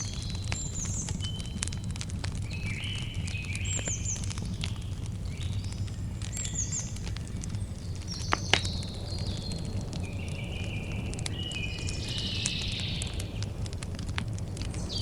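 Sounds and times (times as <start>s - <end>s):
birds chirping: 0.0s - 13.5s
campfire crackling and popping: 0.0s - 15.0s
low rumble of fire: 0.0s - 15.0s.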